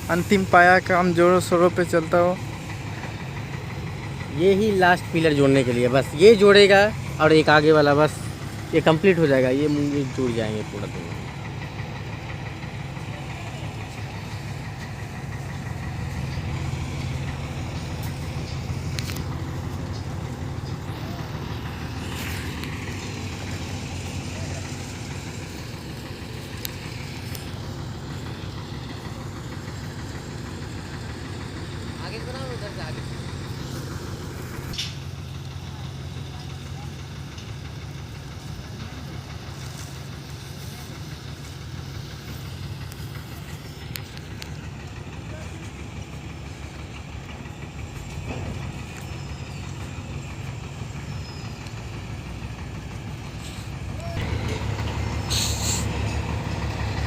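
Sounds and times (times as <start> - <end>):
heavy machinery engine rumbling: 0.0 - 57.0.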